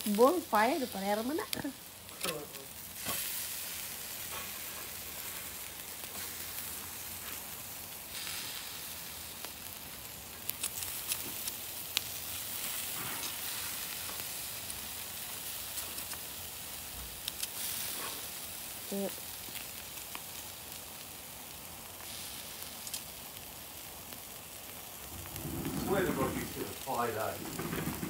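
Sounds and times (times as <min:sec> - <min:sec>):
meat sizzling on a grill: 0:00.0 - 0:28.0.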